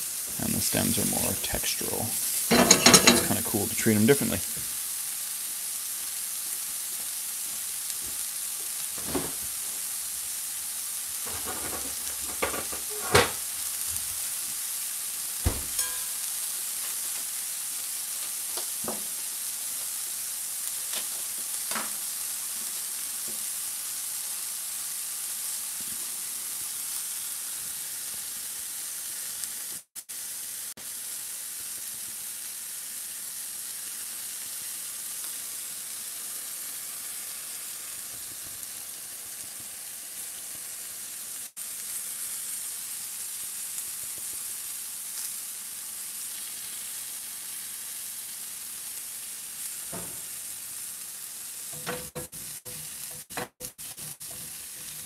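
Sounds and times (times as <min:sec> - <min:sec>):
mushrooms sizzling in pans: 0:00.0 - 0:55.0.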